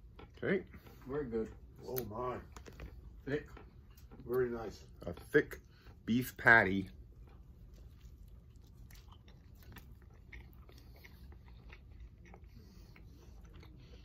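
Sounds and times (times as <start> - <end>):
low steady hum: 0.0 - 14.0
wet chewing clicks: 0.0 - 14.0.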